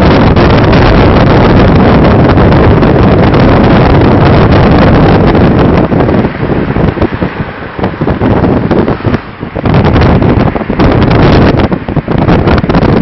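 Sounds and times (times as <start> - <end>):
car road and engine rumble: 0.0 - 13.0
wind buffeting microphone: 0.0 - 13.0.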